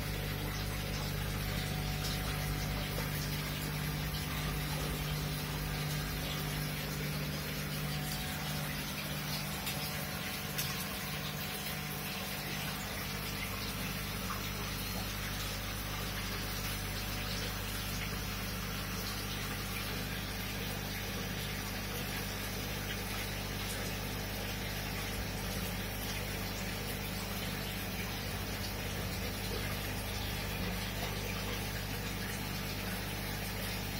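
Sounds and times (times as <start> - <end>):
aquarium air pump humming: 0.0 - 33.9.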